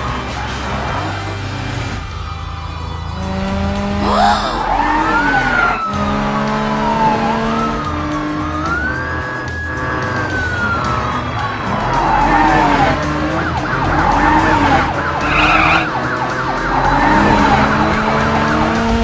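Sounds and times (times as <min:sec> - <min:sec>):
background music: 0:00.0 - 0:19.0
cartoon engine whine: 0:00.6 - 0:19.0.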